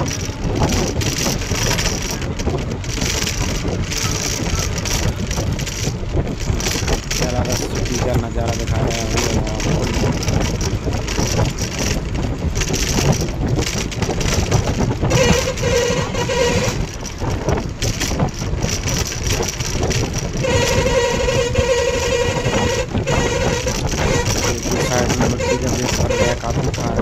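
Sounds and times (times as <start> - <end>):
vehicle wind and road noise: 0.0 - 27.0.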